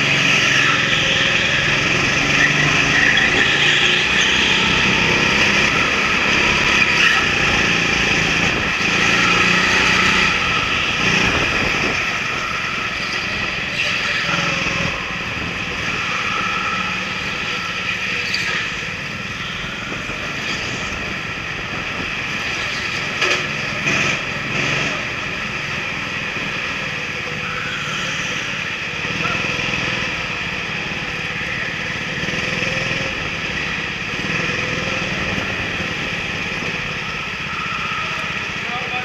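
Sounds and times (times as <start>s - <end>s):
kart engine running: 0.0s - 39.0s.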